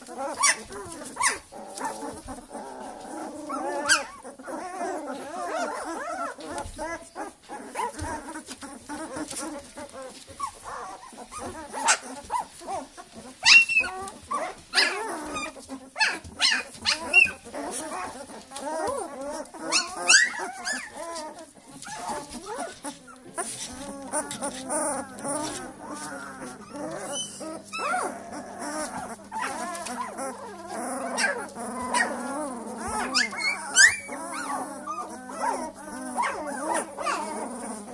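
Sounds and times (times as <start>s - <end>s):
puppies whining and grunting: 0.0s - 37.9s
puppies yelping: 0.0s - 37.9s.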